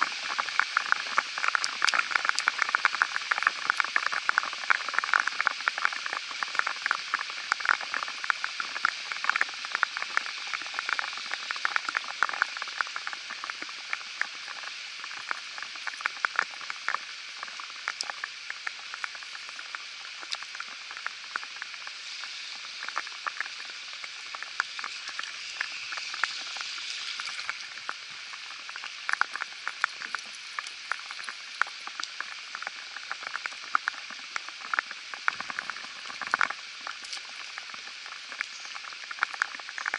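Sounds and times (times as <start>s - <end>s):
raindrops ticking near microphone: 0.0s - 39.9s
steady hiss of rain: 0.0s - 39.9s.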